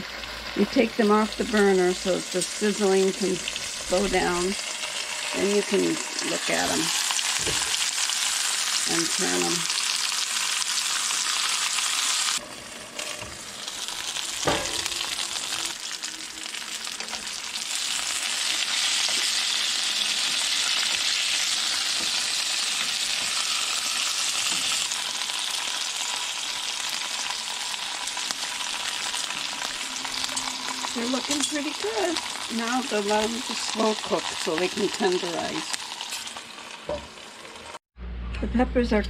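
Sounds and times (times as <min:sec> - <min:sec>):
peppers sizzling in frying pan: 0:00.0 - 0:37.8.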